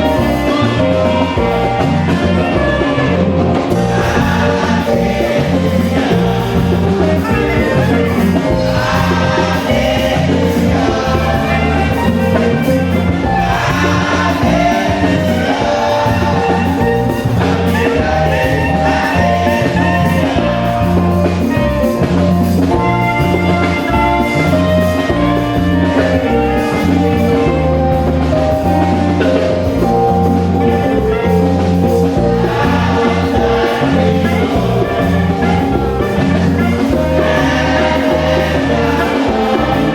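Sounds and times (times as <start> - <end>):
drums: 0.0 - 39.9
group singing gospel: 0.0 - 39.9
loud bass line: 0.0 - 39.9.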